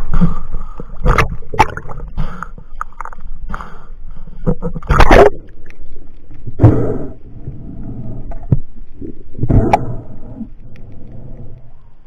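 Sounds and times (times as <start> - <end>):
underwater water rushing: 0.0 - 12.0.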